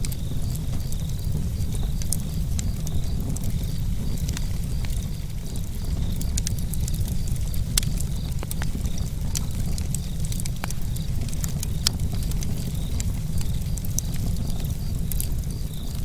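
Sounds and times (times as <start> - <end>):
burning wood crackling: 0.0 - 16.0
low fire rumble: 0.0 - 16.0.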